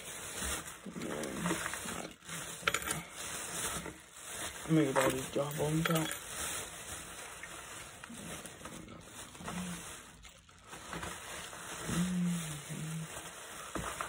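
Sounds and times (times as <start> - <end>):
plastic packaging rustling: 0.0 - 14.0.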